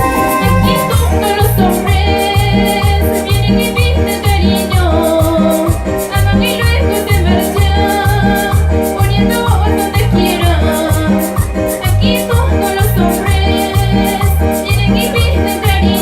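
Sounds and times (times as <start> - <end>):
steady bass beat: 0.0 - 15.8
latin dance music: 0.0 - 16.0
percussion: 0.0 - 16.0
person singing: 0.0 - 16.0.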